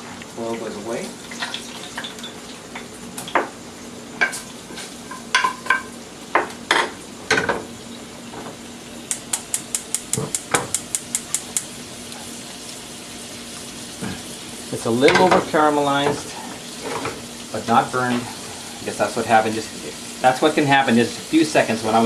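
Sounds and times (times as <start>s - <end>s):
faint sizzle: 0.0s - 22.0s.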